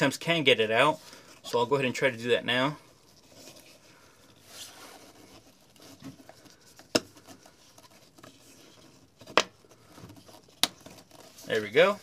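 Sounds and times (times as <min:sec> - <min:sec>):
faint scratching: 0:00.2 - 0:12.0.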